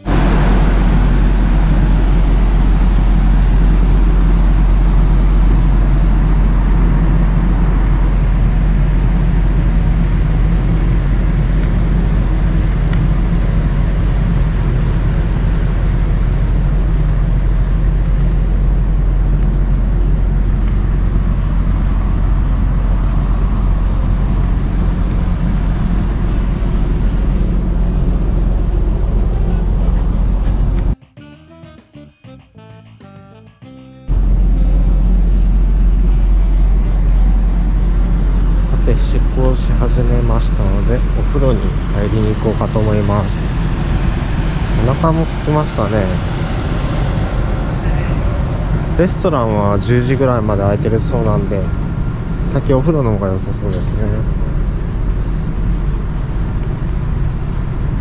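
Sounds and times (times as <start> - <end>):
ship engines rumbling: 0.0 - 31.0, 34.1 - 58.0.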